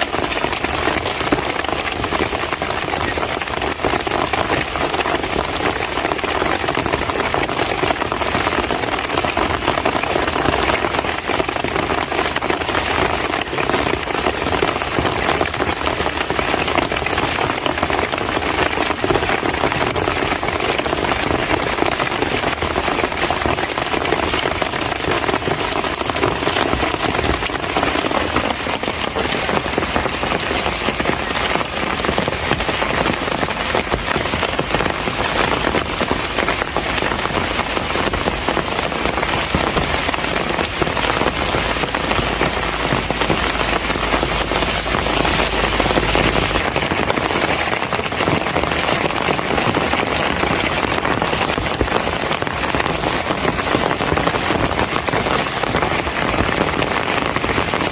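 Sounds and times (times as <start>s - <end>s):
heavy rain pattering: 0.0s - 57.9s.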